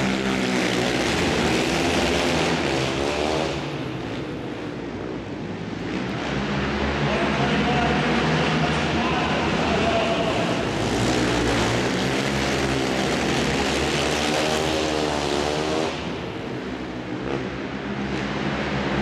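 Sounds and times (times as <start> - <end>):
quad engines at full throttle: 0.0 - 19.0.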